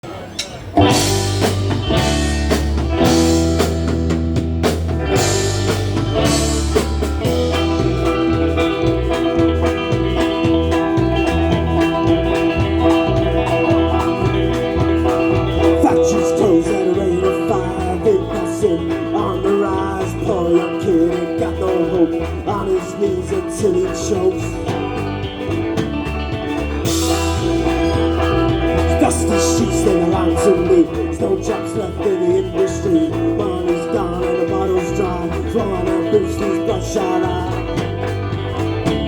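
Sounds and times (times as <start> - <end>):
folk band playing: 0.7 - 39.0
bass beat: 0.8 - 39.0.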